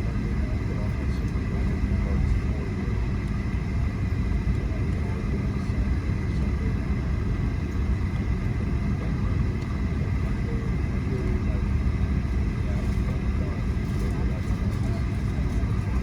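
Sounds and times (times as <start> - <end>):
jet airliner cabin rumble: 0.0 - 16.0.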